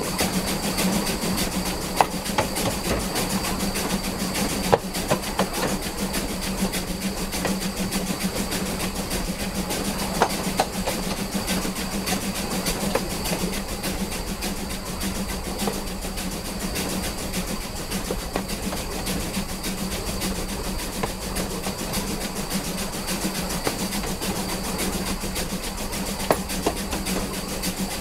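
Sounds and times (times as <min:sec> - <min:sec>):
steam train running hum: 0:00.0 - 0:28.0
wheels clicking over rail joints: 0:00.0 - 0:28.0.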